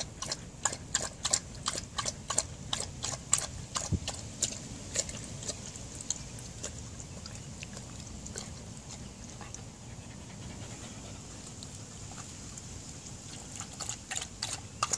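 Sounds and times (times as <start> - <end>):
dogs panting: 0.0 - 14.9.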